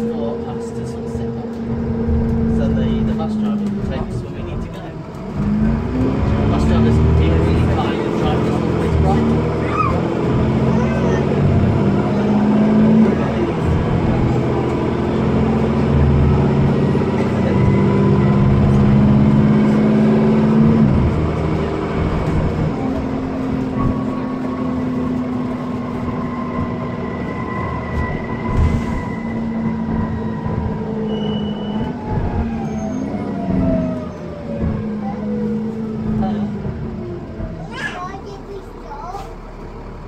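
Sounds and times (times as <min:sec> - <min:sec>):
bus diesel engine: 0:00.0 - 0:40.0.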